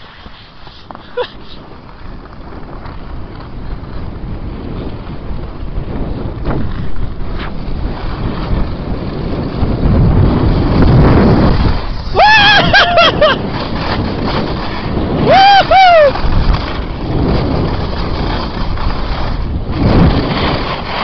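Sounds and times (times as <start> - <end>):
skis sliding on snow: 0.0 - 21.0
wind buffeting microphone: 0.0 - 21.0.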